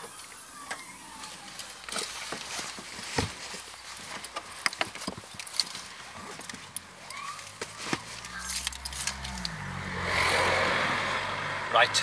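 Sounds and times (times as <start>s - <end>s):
gear clicking and rustling: 0.0s - 9.6s
low car engine hum: 0.0s - 12.0s.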